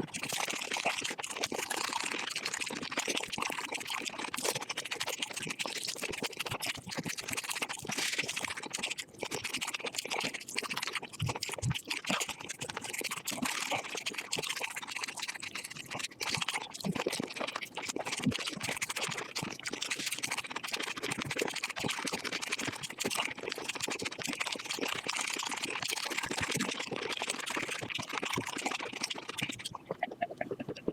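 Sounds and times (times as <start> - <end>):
chicken being bitten and chewed: 0.0 - 30.9.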